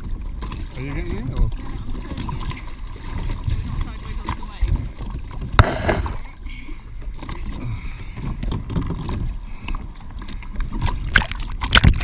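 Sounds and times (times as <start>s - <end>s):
water slopping against kayak hull: 0.0s - 6.3s, 7.0s - 12.0s.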